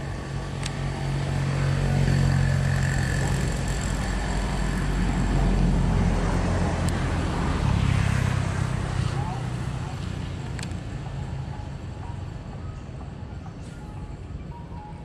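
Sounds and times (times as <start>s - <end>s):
motor vehicle engine drone: 0.0s - 14.9s.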